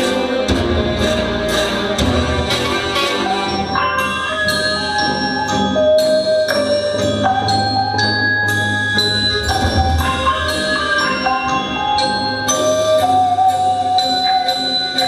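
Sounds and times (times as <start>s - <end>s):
bell-like mallet percussion melody: 0.0s - 15.0s.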